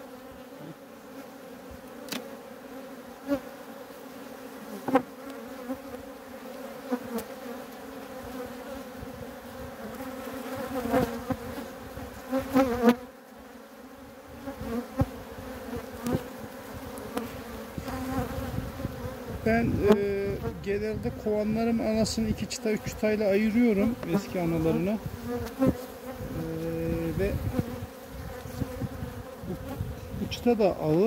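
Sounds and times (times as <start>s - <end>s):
honeybees buzzing: 0.0s - 31.0s.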